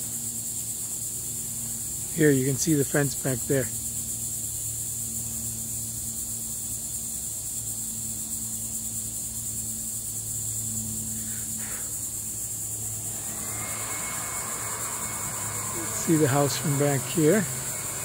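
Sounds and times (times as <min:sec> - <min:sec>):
insects droning: 0:00.0 - 0:18.0
low steady hum: 0:03.5 - 0:18.0.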